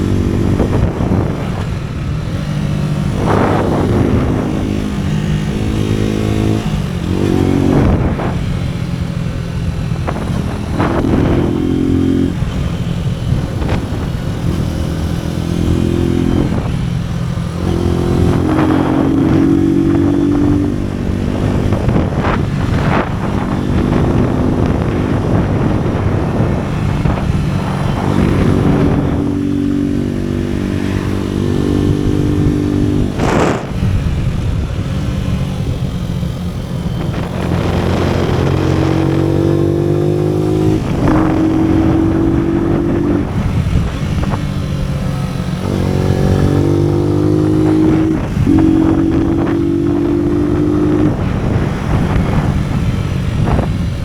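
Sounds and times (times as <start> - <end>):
motorcycle engine shifting gears: 0.0 - 54.0.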